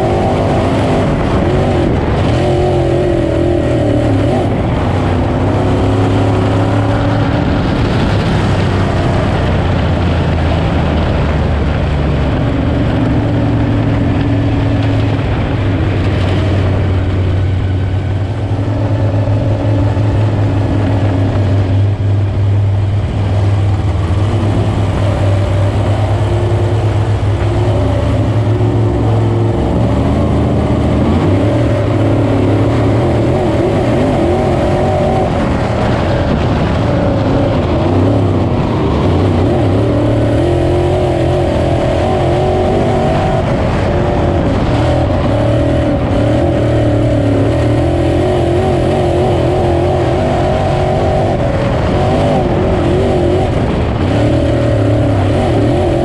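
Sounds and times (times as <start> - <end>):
race car engine at racing speed: 0.0 - 56.0.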